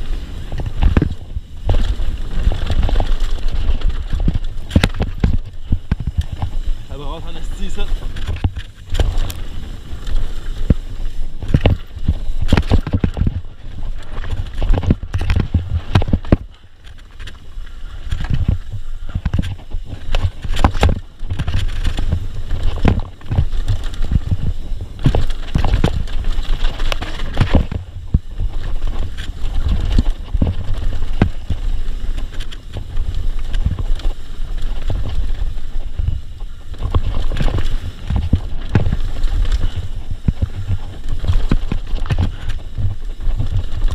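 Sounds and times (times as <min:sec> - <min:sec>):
bike tyres rumbling on dirt: 0:00.0 - 0:43.9
wind rumble on microphone: 0:00.0 - 0:43.9
bike clattering over rocks: 0:00.3 - 0:43.9.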